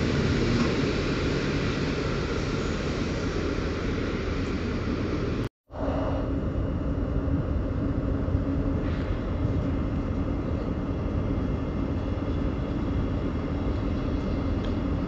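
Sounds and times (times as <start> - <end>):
low hum: 0.0 - 15.0
train rumble: 0.0 - 15.0.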